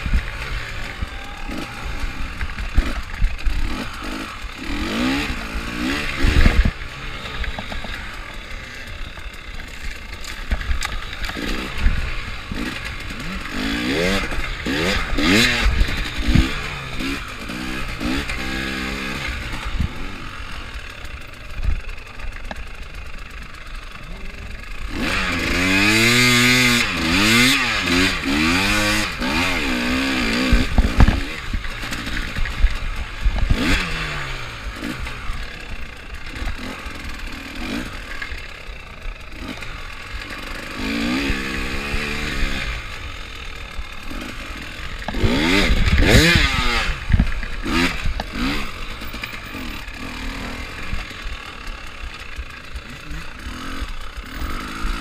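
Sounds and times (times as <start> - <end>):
motorcycle clattering over bumps: 0.0 - 55.0
motorcycle engine revving: 0.0 - 55.0.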